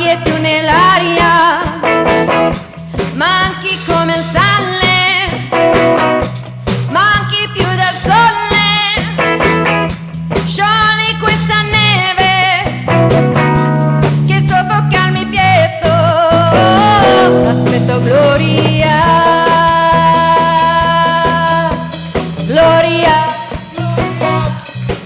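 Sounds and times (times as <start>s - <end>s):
live band playing: 0.0s - 25.0s.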